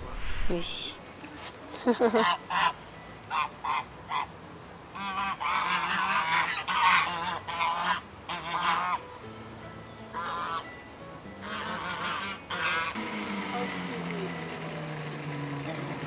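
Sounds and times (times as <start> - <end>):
geese honking: 2.1 - 9.2, 10.1 - 16.0.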